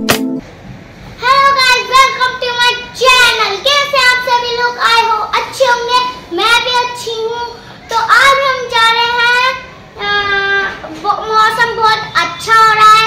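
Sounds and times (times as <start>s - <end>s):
girl singing unaccompanied: 1.2s - 13.0s.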